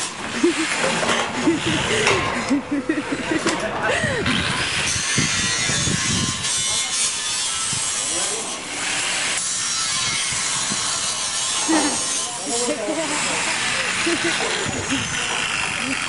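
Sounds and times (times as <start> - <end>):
power tool cutting sheet metal: 0.0 - 3.6, 4.3 - 16.0.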